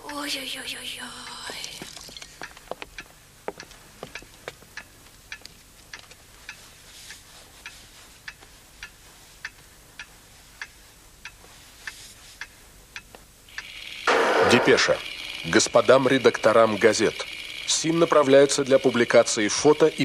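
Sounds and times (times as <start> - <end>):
clock ticking: 0.0 - 0.4, 2.4 - 20.0.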